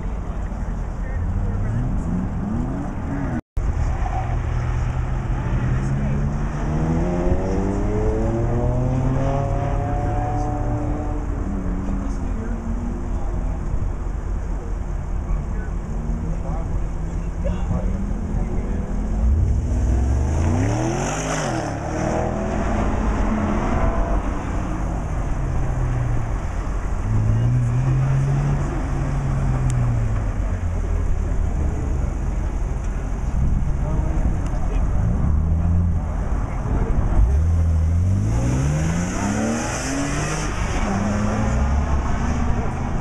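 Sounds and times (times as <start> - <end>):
distant car engine accelerating: 4.1 - 13.3, 15.8 - 43.0.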